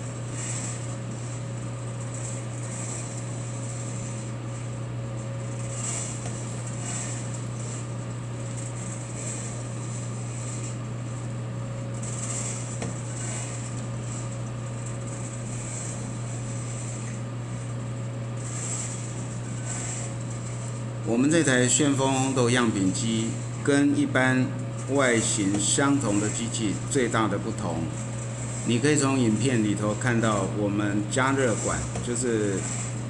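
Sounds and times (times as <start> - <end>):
roaster fan and motor hum: 0.0 - 33.0.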